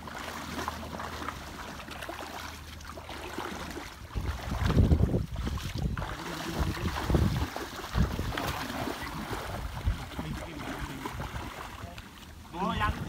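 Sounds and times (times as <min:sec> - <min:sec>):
muddy water sloshing and splashing: 0:00.0 - 0:13.0
net dragged through water: 0:00.0 - 0:13.0.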